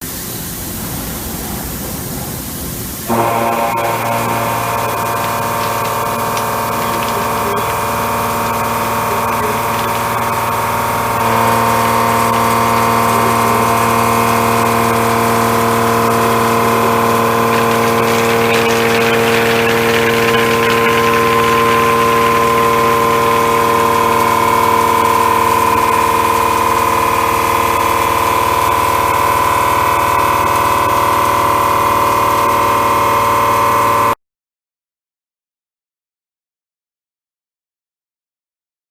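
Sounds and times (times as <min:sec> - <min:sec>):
milling cutter machining steel: 0:00.0 - 0:34.1.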